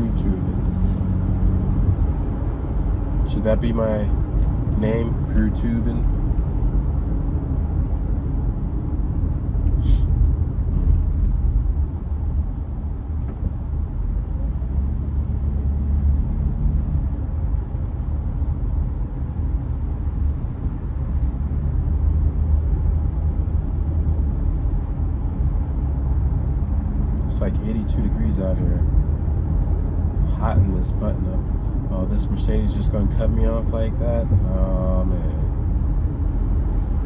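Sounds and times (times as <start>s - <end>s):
car engine rumble: 0.0s - 37.0s
road noise inside car: 0.0s - 37.0s.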